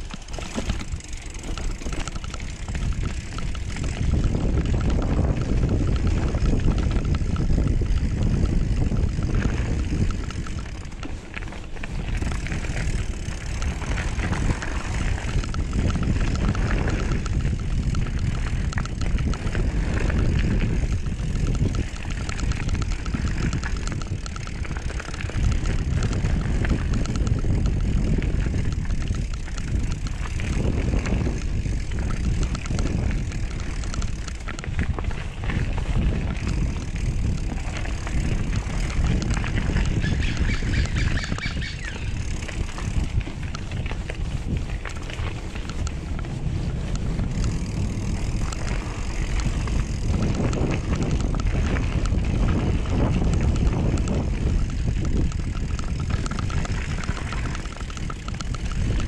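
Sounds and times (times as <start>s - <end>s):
bike tyres rumbling on dirt trail: 0.0s - 59.0s
wind rushing over microphone: 0.0s - 59.0s.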